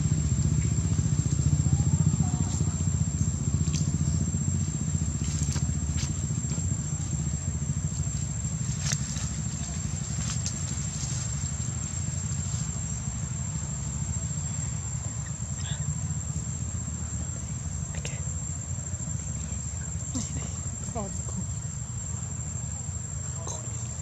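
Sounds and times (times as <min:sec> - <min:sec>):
high-pitched insect drone: 0:00.0 - 0:24.0
steady low rumble: 0:00.0 - 0:24.0.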